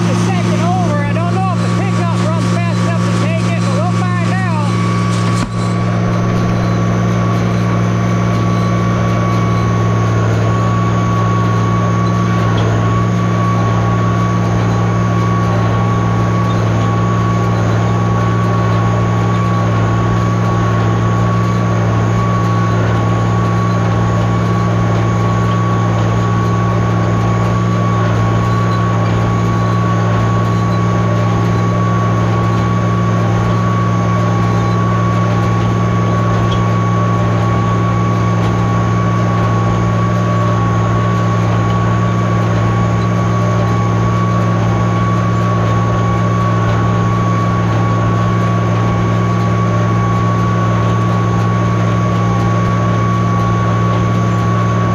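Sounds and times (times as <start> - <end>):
high whine: 0.0 - 54.9
tractor engine droning: 0.0 - 54.9.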